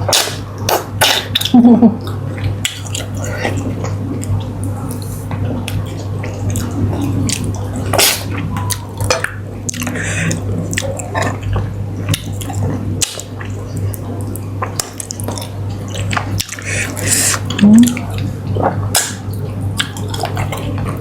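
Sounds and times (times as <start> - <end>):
steady low hum: 0.0 - 21.0
wet eating sounds: 0.0 - 21.0.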